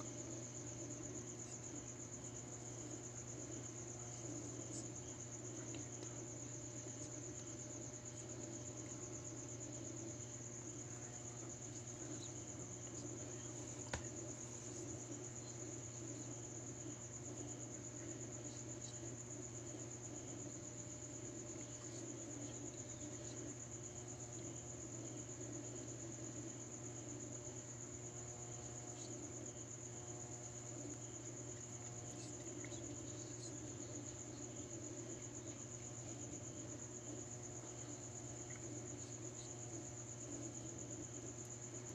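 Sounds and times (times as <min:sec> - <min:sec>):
cricket trilling: 0:00.0 - 0:41.9
low steady hum: 0:00.0 - 0:41.9.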